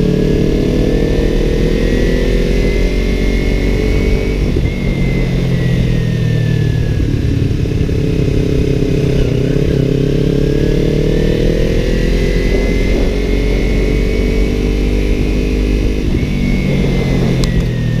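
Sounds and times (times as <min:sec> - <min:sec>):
wind rumbling on microphone: 0:00.0 - 0:09.8, 0:10.8 - 0:18.0
motorcycle engine running: 0:00.0 - 0:18.0.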